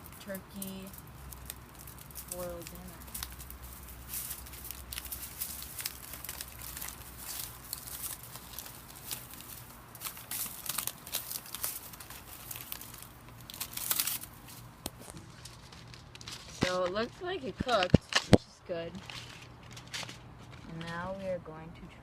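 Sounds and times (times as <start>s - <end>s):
foil crinkling: 0.0s - 21.3s.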